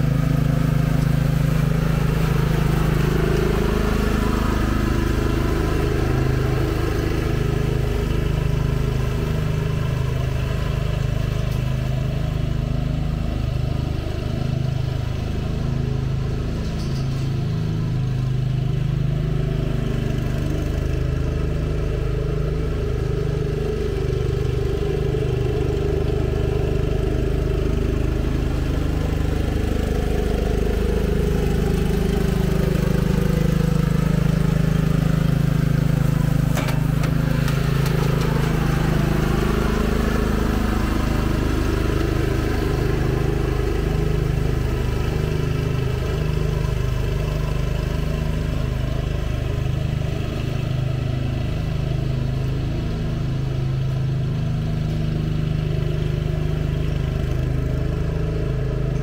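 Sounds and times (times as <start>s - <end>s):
riding lawn mower mowing grass: 0.0s - 59.0s.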